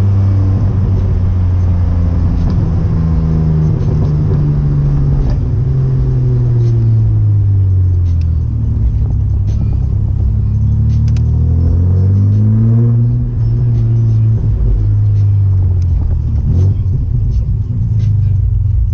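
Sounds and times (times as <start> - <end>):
car engine accelerating and cruising: 0.0 - 18.9.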